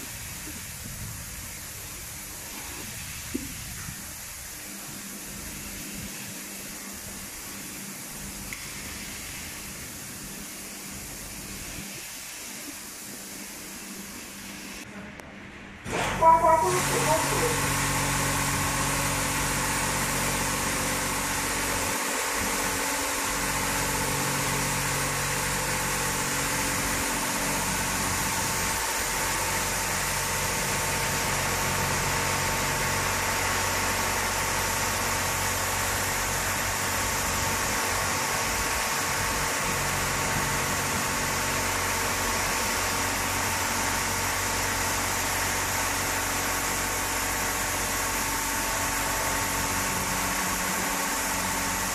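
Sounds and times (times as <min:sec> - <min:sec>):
high-pressure water jets hissing: 0:00.0 - 0:14.8, 0:15.9 - 0:51.9
pump motor humming: 0:00.0 - 0:14.8, 0:15.8 - 0:51.9.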